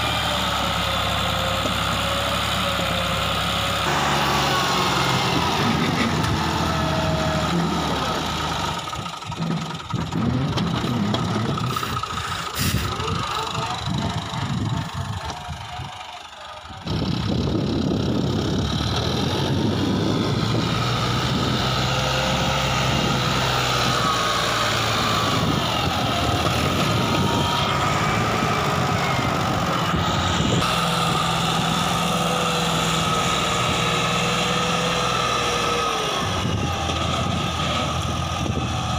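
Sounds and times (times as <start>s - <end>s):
tractor diesel engine straining: 0.0s - 38.9s.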